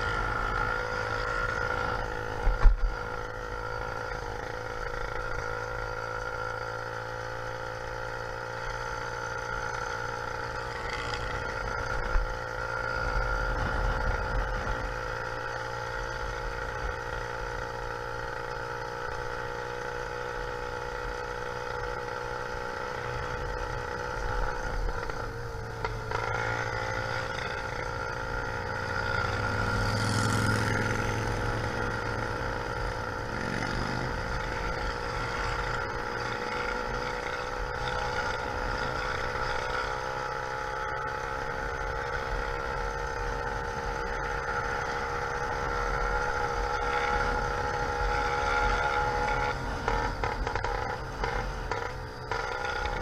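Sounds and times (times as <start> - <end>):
two-stroke engine running: 0.0 - 53.0.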